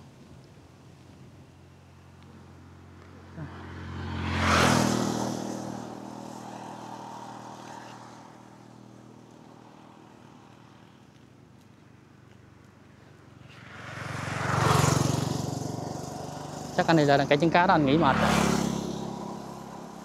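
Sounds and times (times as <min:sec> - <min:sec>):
vehicles passing on road: 0:00.0 - 0:20.0.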